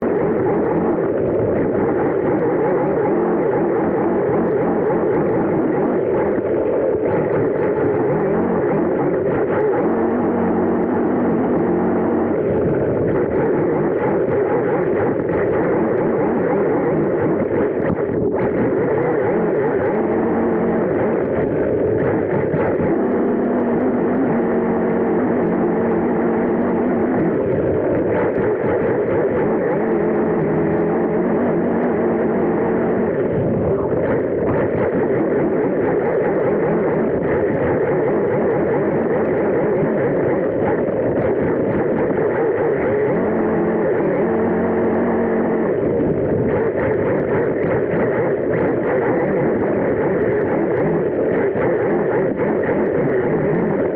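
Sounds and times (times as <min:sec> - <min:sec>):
low motor tone: 0:00.0 - 0:53.9
wind noise: 0:00.0 - 0:53.9.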